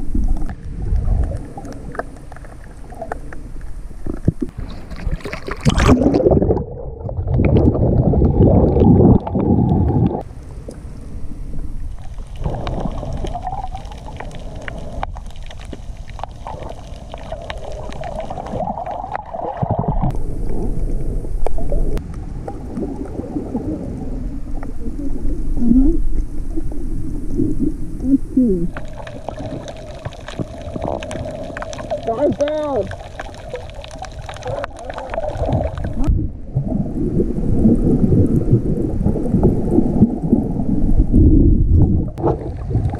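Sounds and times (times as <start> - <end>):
bubbling gurgles: 0.0 - 10.3, 11.8 - 42.9
muffled water sloshing: 0.0 - 42.9.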